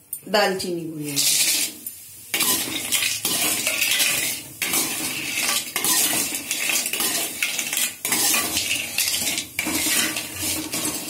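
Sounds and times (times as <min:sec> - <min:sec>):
spoon scraping a pan: 0:01.0 - 0:11.0.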